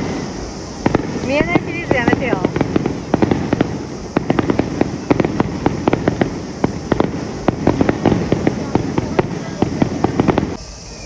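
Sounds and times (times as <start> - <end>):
fireworks crackling pops: 0.0 - 11.0.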